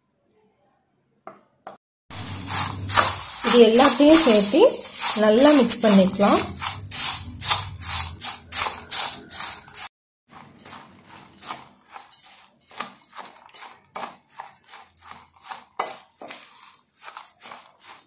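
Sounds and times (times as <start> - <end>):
spoon scraping puffed rice in bowl: 2.1 - 18.0.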